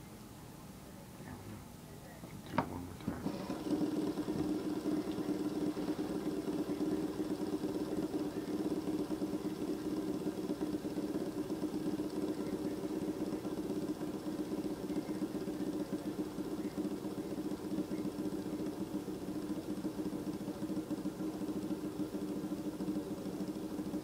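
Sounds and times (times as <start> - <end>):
fidget spinner whirring: 2.6 - 24.0.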